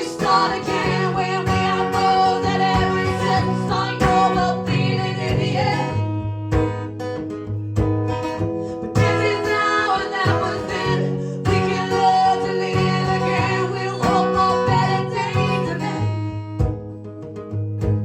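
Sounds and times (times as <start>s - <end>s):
strummed acoustic guitars: 0.0s - 18.0s.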